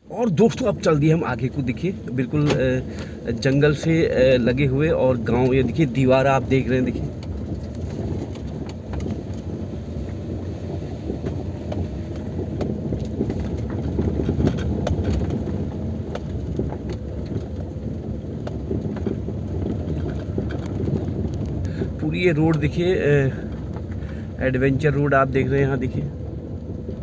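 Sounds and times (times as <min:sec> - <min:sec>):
engine and tyre rumble: 0:00.0 - 0:27.0
light clicks and knocks: 0:00.4 - 0:27.0.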